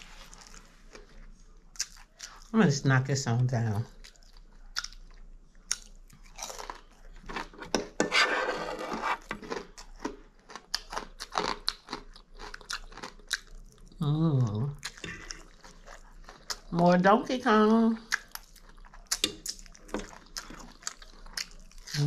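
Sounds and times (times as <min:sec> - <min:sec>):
chewing and crunching food: 0:00.0 - 0:02.6, 0:03.6 - 0:08.0, 0:08.9 - 0:22.0.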